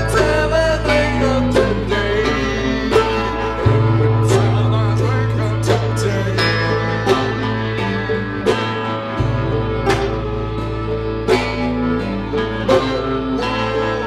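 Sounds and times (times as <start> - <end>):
country band instrumental: 0.0 - 14.0.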